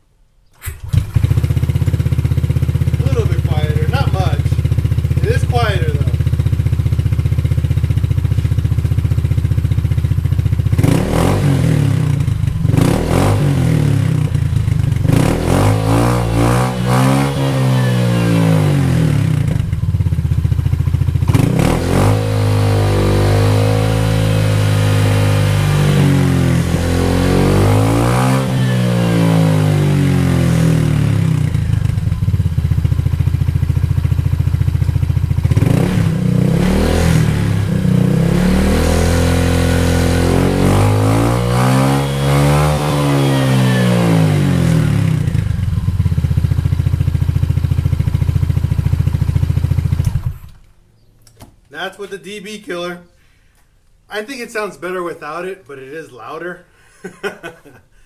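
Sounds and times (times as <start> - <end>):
motorcycle engine idling and revving: 0.7 - 50.7.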